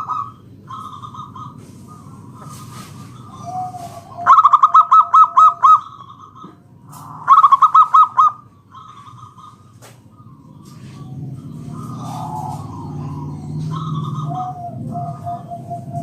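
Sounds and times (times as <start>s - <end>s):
dove staccato calls: 0.0s - 16.0s
soft dove calls: 0.0s - 16.0s.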